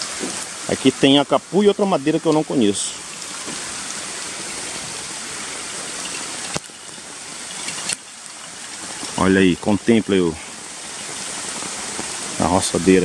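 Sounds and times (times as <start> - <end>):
rushing hiss of water: 0.0 - 13.0.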